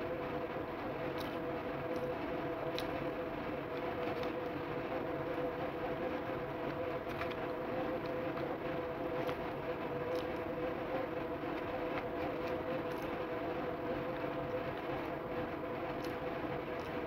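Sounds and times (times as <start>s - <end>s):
machine hum with held tones: 0.0s - 17.0s.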